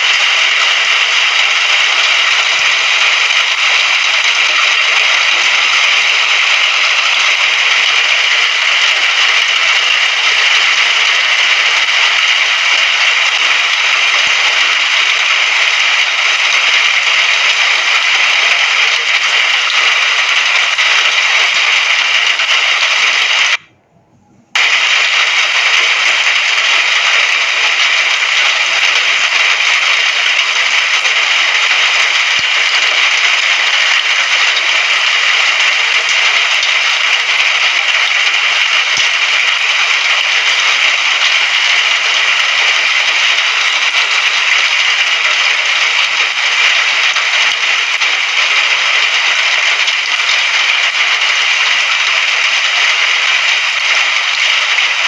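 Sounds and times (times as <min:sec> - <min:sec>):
rain hiss: 0:00.0 - 0:23.7, 0:24.5 - 0:55.0.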